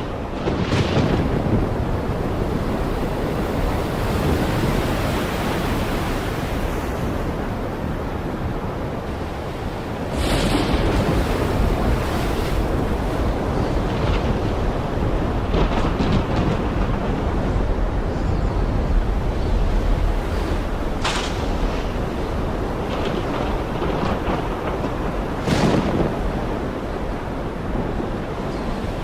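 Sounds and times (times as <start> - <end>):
heavy rain pouring: 0.0 - 18.1, 18.8 - 29.0.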